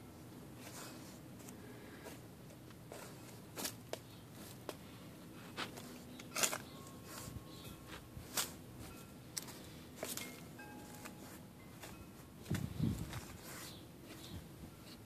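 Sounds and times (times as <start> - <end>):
dog digging in gravelly dirt: 0.6 - 15.0.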